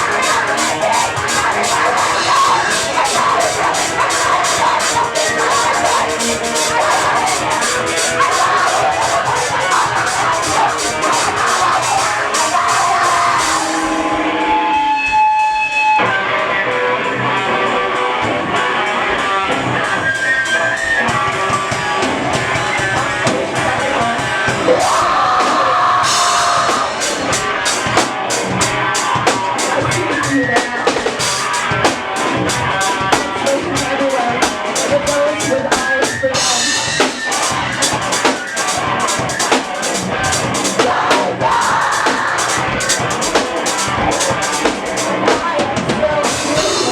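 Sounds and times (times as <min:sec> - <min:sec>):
drum kit with cymbal beat: 0:00.0 - 0:16.0, 0:18.2 - 0:46.9
electric guitar: 0:00.0 - 0:46.9.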